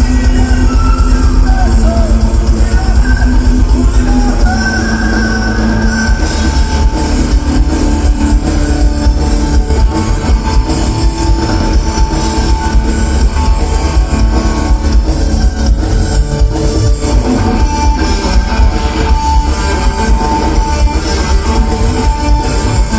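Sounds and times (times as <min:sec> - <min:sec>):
electric guitar: 0:00.0 - 0:22.9
heavy bass: 0:00.0 - 0:22.9
live rock band playing: 0:00.0 - 0:22.9.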